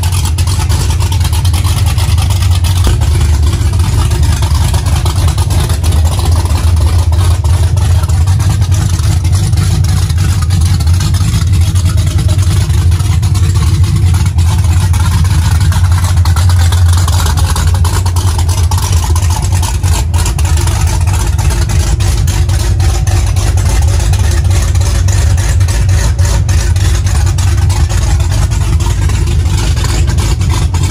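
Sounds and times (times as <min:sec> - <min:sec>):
car engine idling with choppy lope: 0:00.0 - 0:30.9.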